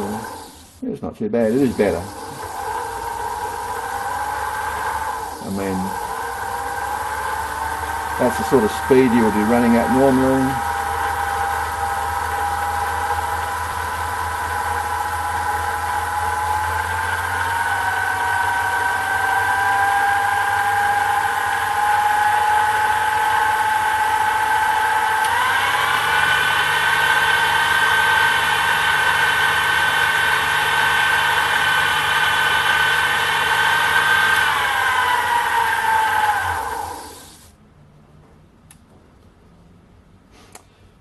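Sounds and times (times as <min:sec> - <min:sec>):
metal lathe whining: 0:00.0 - 0:00.8, 0:01.4 - 0:37.5.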